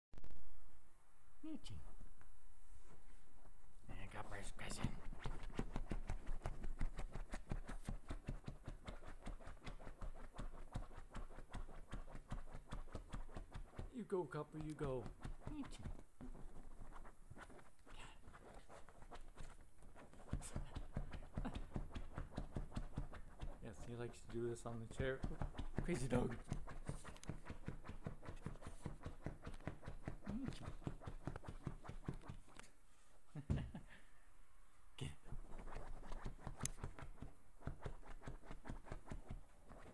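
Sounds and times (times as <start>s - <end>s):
dog claws scratching fabric: 4.3s - 32.7s, 35.3s - 39.9s.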